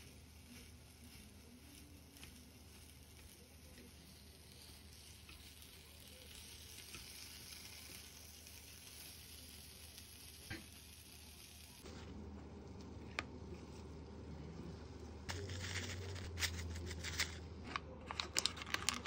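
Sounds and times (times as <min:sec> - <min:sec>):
omelette sizzling in pan: 0:00.0 - 0:17.0.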